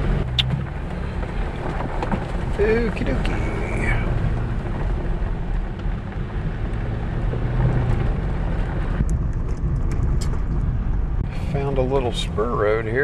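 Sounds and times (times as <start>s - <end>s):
low engine hum: 0.0s - 13.0s
tyres rushing on rough dirt: 0.0s - 13.0s.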